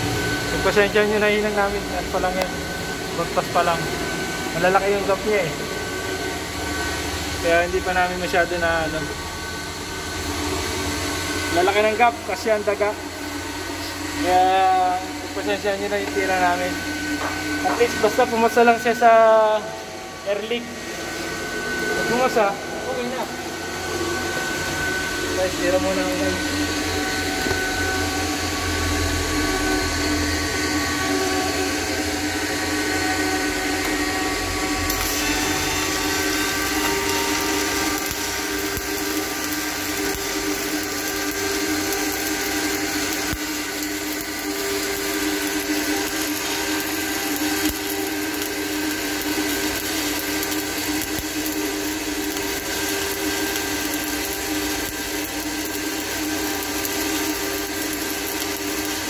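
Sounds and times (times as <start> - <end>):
steady hum with tones: 0.0 - 58.8
welding arc crackling and hissing: 0.0 - 59.0.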